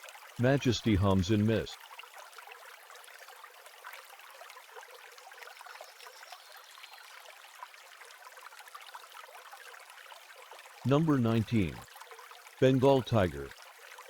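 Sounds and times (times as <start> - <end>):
trickling stream water: 0.0 - 14.0.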